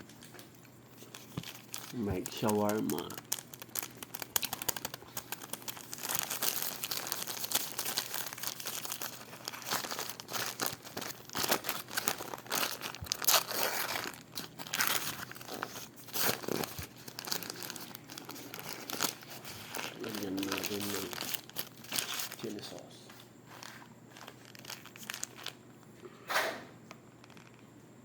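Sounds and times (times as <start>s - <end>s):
food wrapper crinkling and tearing: 0.0s - 22.8s, 23.5s - 25.7s, 27.0s - 27.7s.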